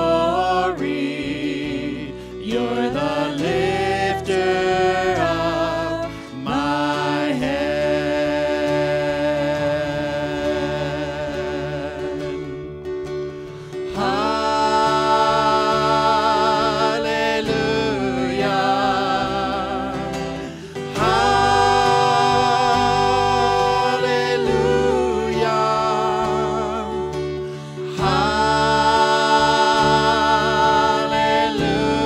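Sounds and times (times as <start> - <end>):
instrumental backing: 0.0 - 32.0
person singing with vibrato: 0.0 - 32.0.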